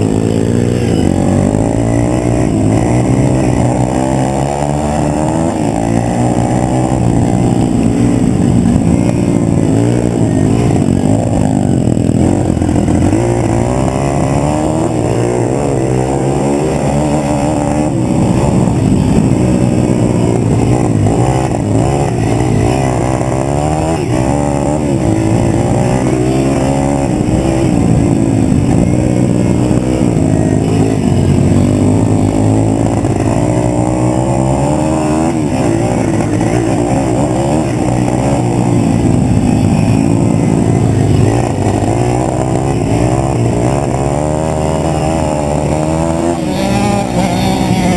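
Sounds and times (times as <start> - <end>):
pit bike engine revving: 0.0 - 47.9.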